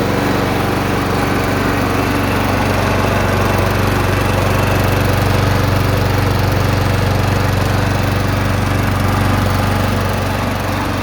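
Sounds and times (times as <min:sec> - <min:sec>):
lawnmower engine running: 0:00.0 - 0:11.0.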